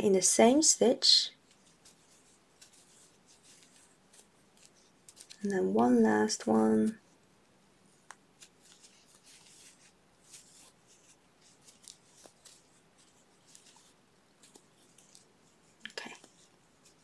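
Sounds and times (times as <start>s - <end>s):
yarn rustling with crochet hook: 0.0s - 17.0s.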